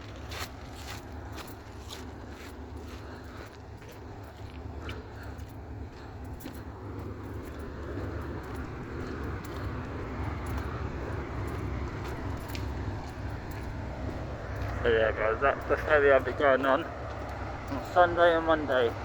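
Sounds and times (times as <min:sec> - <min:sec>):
ferry engine rumble: 0:00.0 - 0:19.0.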